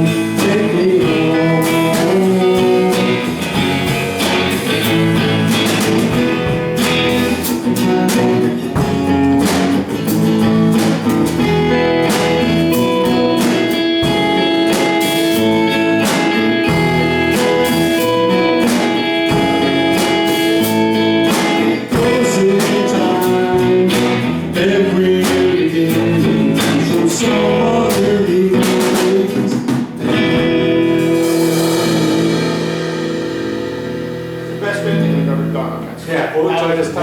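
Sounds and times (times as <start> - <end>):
guitars: 0.0 - 37.0
steady drum beat: 0.0 - 37.0.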